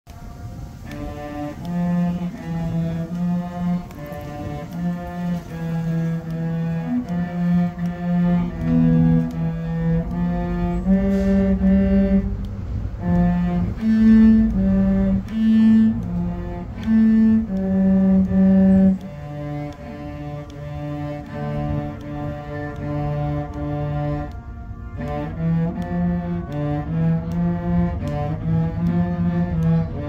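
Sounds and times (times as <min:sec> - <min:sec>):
cello duet with bowed notes: 0:00.1 - 0:30.0.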